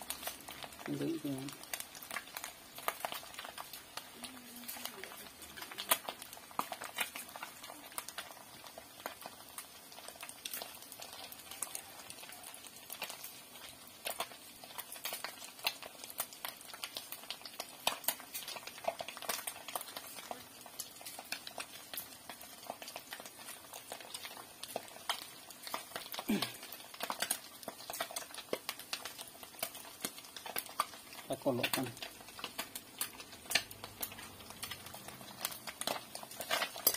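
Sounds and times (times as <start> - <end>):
food sputtering and crackling in pan: 0.0 - 36.9.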